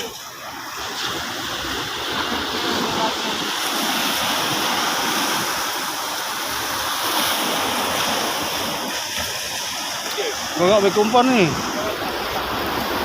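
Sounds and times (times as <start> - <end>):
waves washing onto beach: 0.0 - 13.0.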